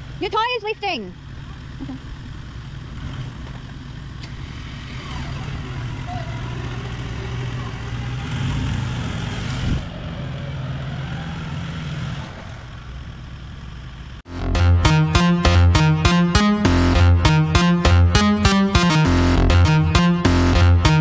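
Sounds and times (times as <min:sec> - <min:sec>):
car engine at low speed: 0:00.0 - 0:21.0.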